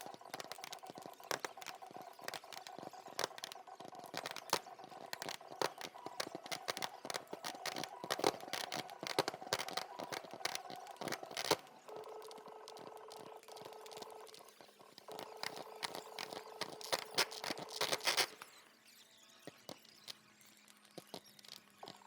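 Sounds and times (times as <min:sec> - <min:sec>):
fireworks crackling and popping: 0:00.0 - 0:18.5.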